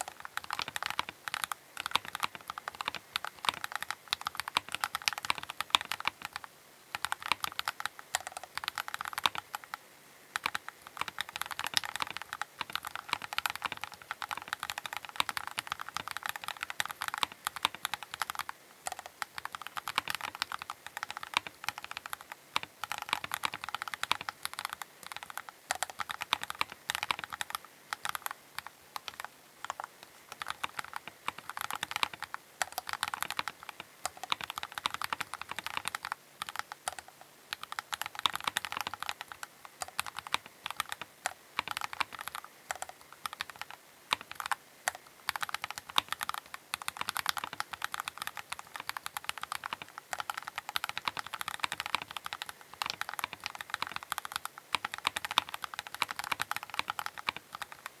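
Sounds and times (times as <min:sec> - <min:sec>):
mechanical keyboard typing: 0:00.0 - 0:09.8, 0:10.4 - 0:58.0.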